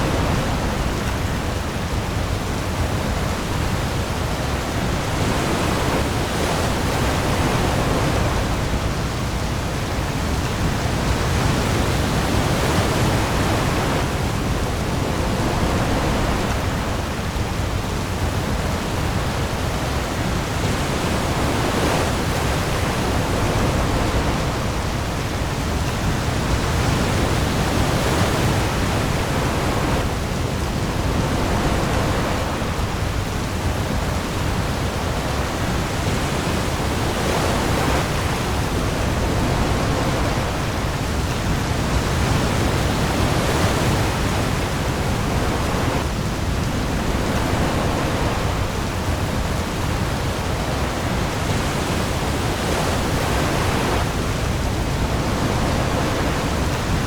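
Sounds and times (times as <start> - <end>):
heavy rain on the sea: 0.0 - 57.0
storm waves rumbling: 0.0 - 57.0.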